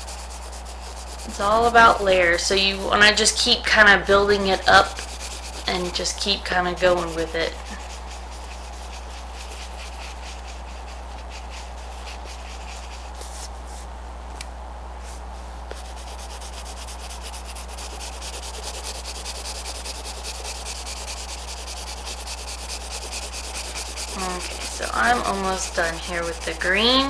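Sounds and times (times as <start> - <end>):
colored pencil scratching on paper: 0.0 - 13.8, 15.7 - 27.0
low electrical hum: 0.0 - 27.0.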